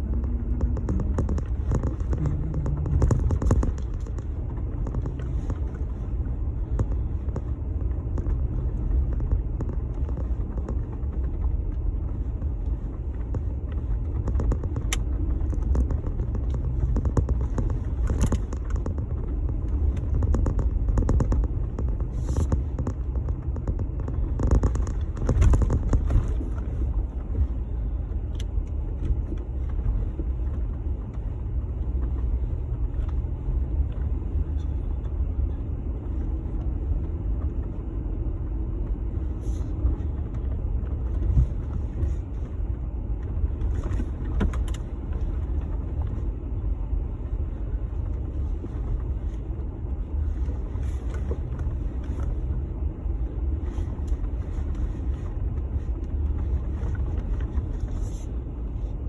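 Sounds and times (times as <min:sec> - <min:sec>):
pickup engine and road rumble: 0:00.0 - 0:59.0.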